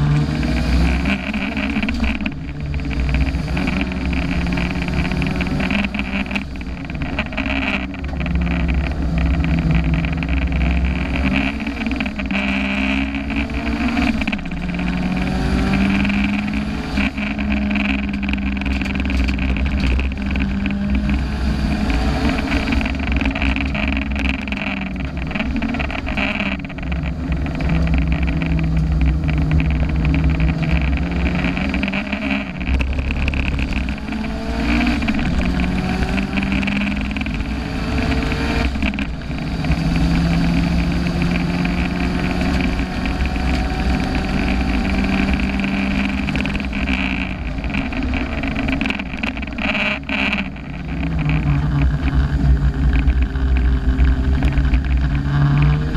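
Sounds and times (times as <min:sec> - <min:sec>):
car engine driven hard: 0:00.0 - 0:55.9
gear changes: 0:00.0 - 0:55.9
wind and road noise: 0:00.0 - 0:55.9.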